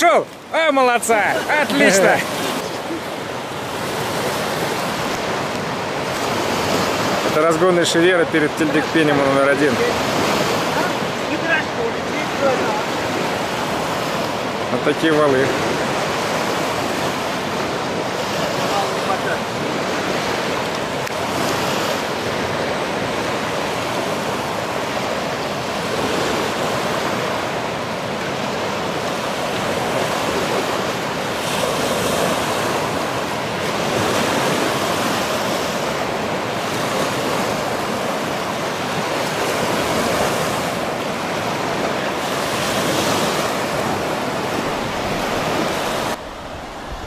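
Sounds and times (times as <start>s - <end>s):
whitewater rushing through rapids: 0.0s - 47.0s.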